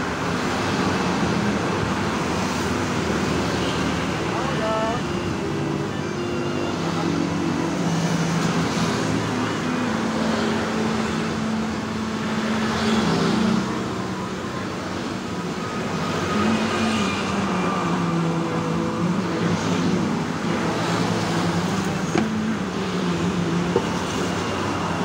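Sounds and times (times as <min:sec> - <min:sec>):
vehicle engines droning: 0:00.0 - 0:25.0.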